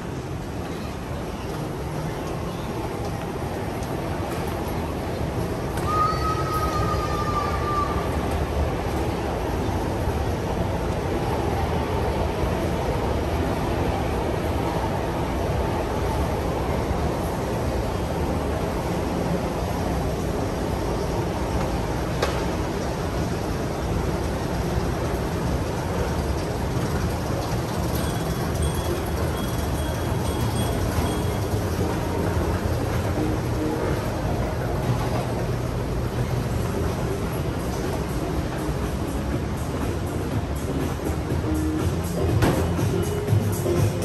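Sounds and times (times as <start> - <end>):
city street traffic rumble: 0.0 - 44.0.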